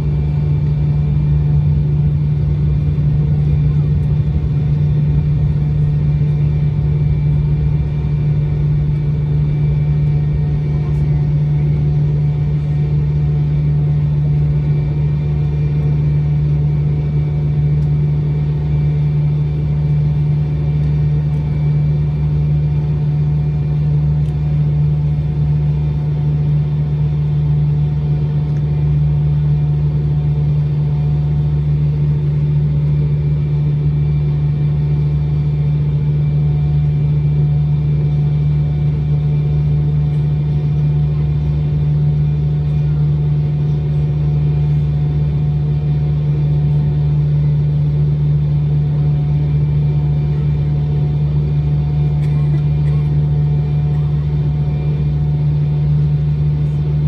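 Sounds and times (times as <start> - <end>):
airliner cabin low hum: 0.0 - 57.0
faint steady engine whine: 0.0 - 57.0.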